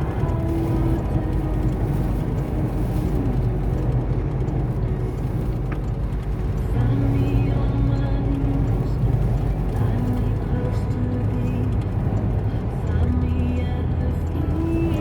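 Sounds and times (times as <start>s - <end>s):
car driving on highway: 0.0s - 15.0s.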